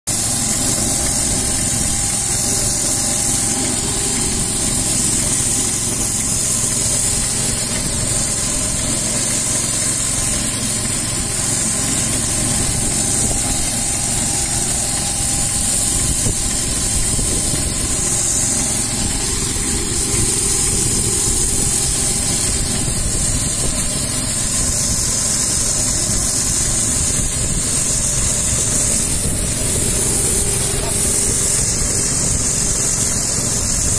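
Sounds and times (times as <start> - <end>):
paint spray hissing: 0.1 - 33.9
small engine rumbling: 0.1 - 33.9.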